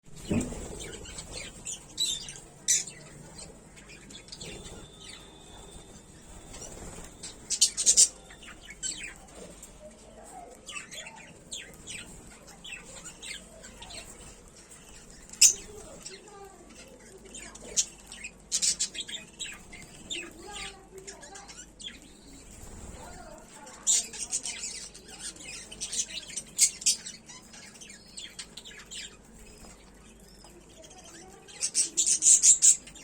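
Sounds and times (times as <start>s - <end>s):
lovebirds chirping: 0.0s - 33.0s.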